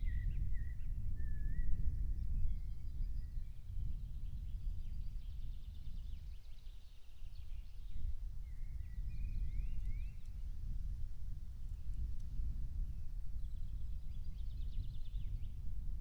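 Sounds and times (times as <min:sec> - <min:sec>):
songbirds singing: 0:00.0 - 0:10.4, 0:12.9 - 0:15.7.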